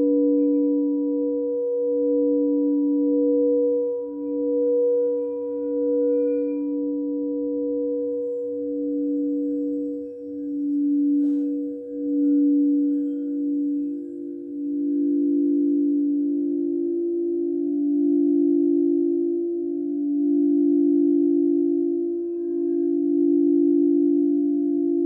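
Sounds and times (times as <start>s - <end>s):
singing bowls ringing: 0.0s - 25.0s.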